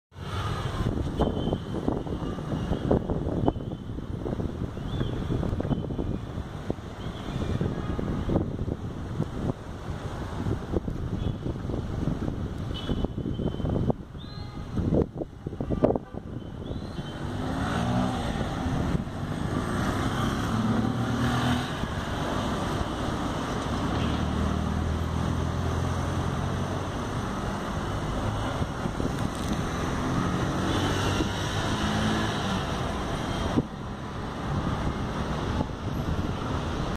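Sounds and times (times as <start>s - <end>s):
car and motorcycle engines passing: 0.2s - 12.8s, 16.6s - 36.9s
wind on microphone: 0.5s - 23.8s, 24.4s - 36.9s.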